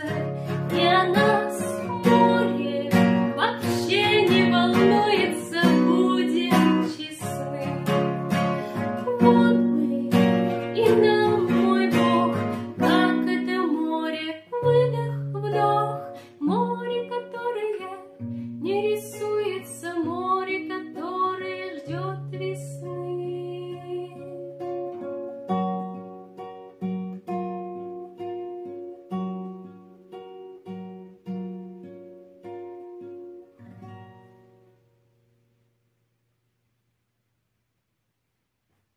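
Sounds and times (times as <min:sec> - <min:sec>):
acoustic guitar playing: 0:00.0 - 0:36.8.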